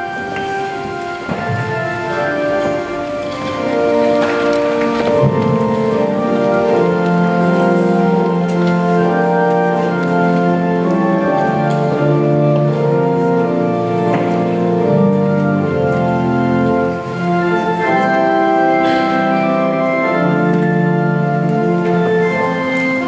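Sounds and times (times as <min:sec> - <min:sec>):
church organ playing a hymn: 0:00.0 - 0:23.0.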